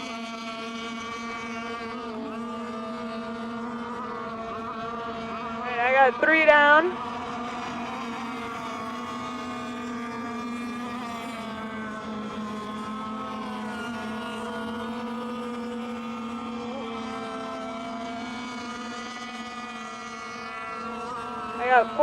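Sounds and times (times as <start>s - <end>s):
rc boat motors buzzing: 0.0s - 22.0s.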